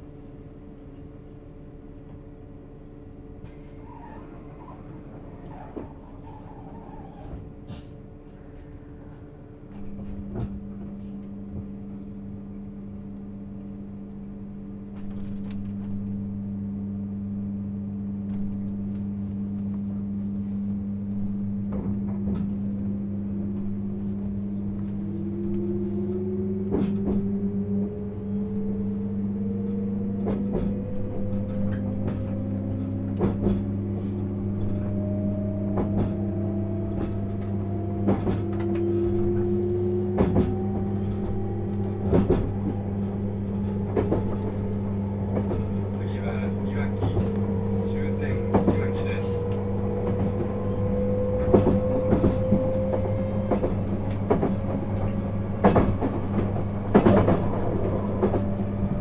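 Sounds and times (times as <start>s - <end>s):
steady low hum: 0.0s - 59.0s
train motor and gear whine: 0.2s - 59.0s.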